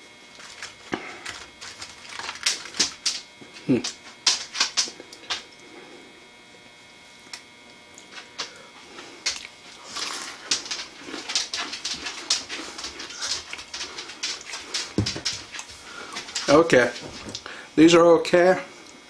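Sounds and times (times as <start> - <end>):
chewing and crunching cookie: 0.3 - 17.6.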